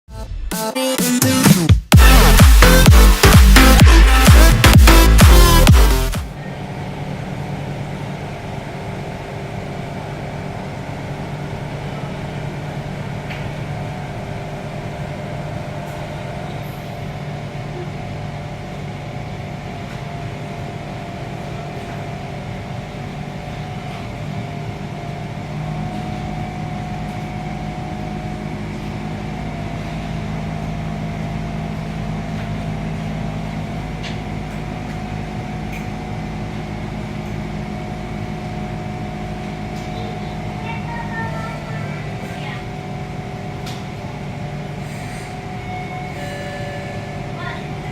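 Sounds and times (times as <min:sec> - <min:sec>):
deeper hum: 0:01.9 - 0:46.4
train interior hum: 0:01.9 - 0:47.9.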